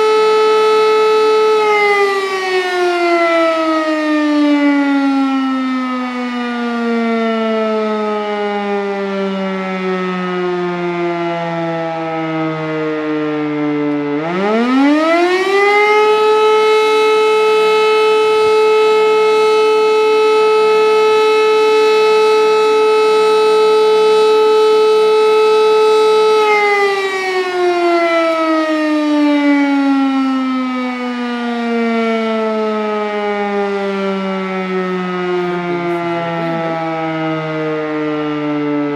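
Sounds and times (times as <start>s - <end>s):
siren winding up and down: 0.0s - 38.9s.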